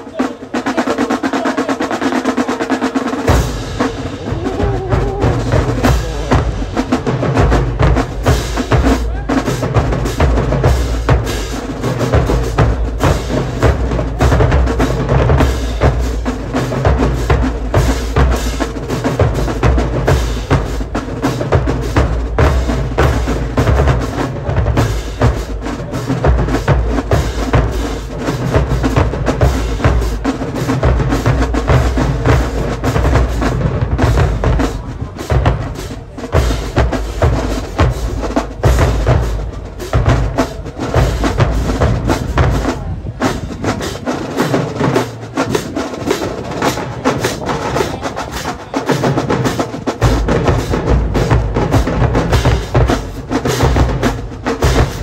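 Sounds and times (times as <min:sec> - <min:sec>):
bass drums: 0:03.0 - 0:55.0.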